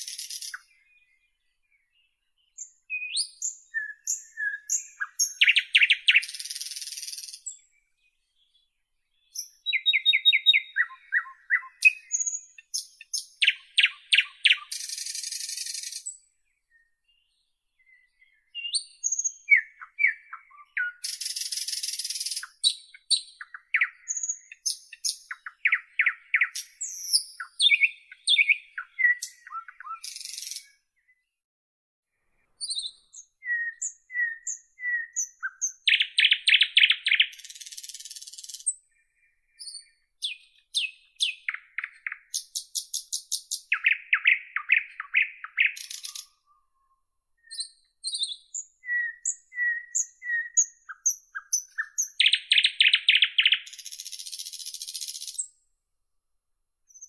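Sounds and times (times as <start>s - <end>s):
nightingale singing: 0.0s - 31.3s, 32.4s - 55.8s.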